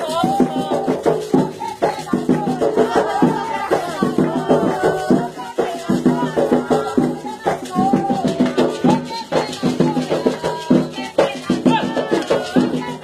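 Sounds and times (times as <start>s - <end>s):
rattles shaken rhythmically: 0.0s - 13.0s
voices singing a chant: 0.0s - 13.0s.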